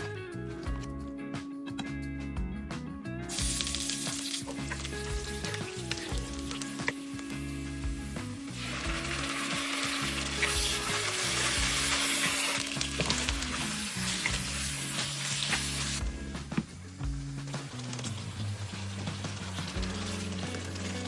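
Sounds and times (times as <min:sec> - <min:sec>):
food sizzling in a pan: 0:03.3 - 0:16.2, 0:16.8 - 0:21.0.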